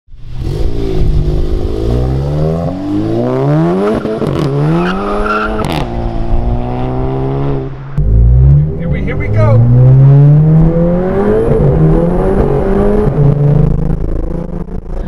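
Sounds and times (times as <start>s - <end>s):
car engine accelerating hard: 0.3s - 15.0s.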